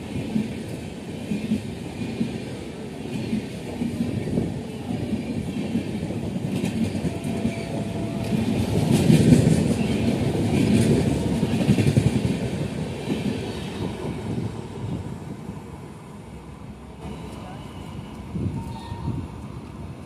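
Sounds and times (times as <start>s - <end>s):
train coaches rushing past: 0.0s - 20.0s.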